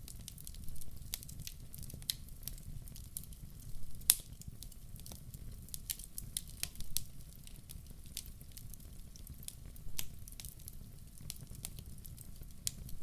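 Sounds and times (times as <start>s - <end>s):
logs crackling in a fireplace: 0.0s - 13.0s.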